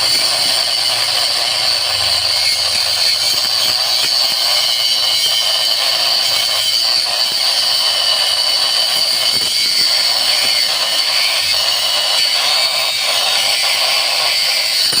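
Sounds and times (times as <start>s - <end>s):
shredding machine whirring: 0.0s - 15.0s.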